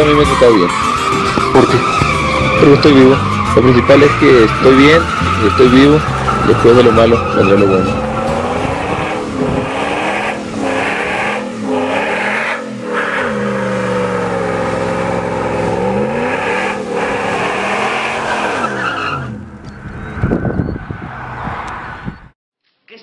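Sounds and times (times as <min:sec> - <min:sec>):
tires squealing: 0:00.0 - 0:22.1
truck engine revving: 0:00.0 - 0:22.1.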